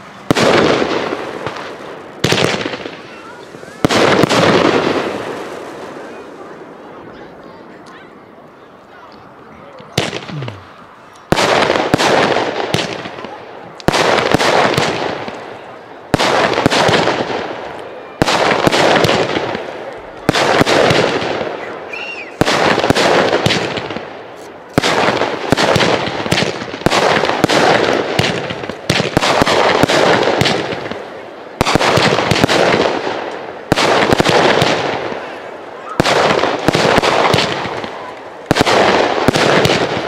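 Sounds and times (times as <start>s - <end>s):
firework bangs with crackling tails: 0.0s - 6.3s, 9.9s - 10.6s, 11.3s - 40.0s.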